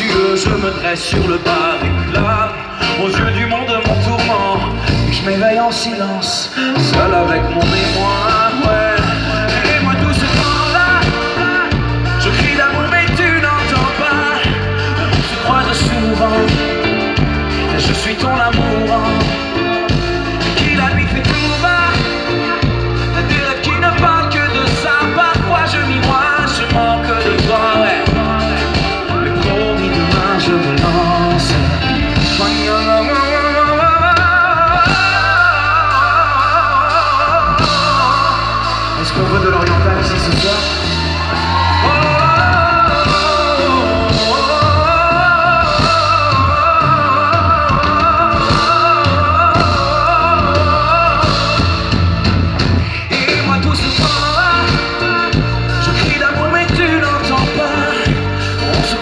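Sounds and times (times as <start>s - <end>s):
man singing: 0.0s - 59.0s
pop-rock band playing: 0.0s - 59.0s.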